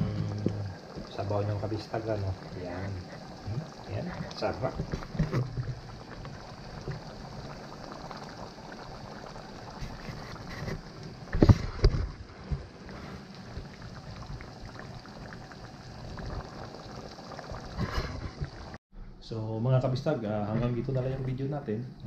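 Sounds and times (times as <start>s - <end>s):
curry simmering in a pan: 0.2s - 18.8s.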